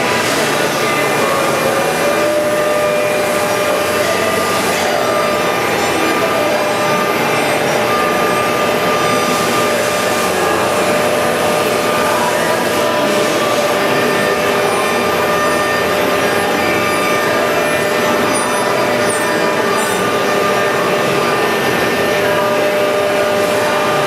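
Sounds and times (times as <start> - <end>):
machining center whine: 0.0 - 24.0.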